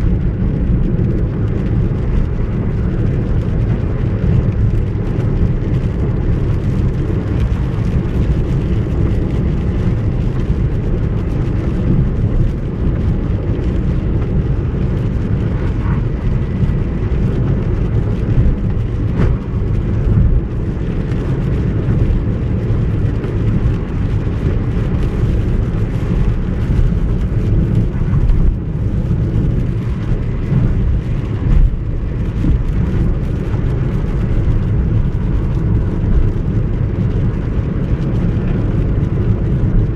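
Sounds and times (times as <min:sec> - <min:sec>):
car interior rumble: 0:00.0 - 0:39.9.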